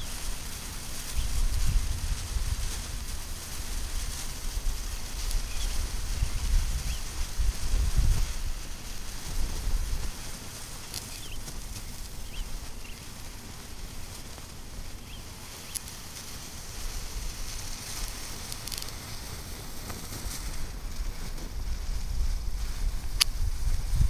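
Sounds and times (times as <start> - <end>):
faint steady hiss: 0.0 - 24.0
soft ticks from small fire: 0.0 - 24.0
wind rumble on microphone: 0.0 - 24.0.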